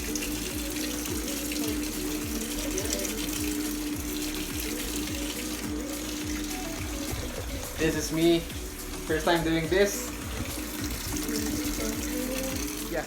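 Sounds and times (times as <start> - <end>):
washing machine hum: 0.0 - 13.0
water pouring into drum: 0.0 - 13.0.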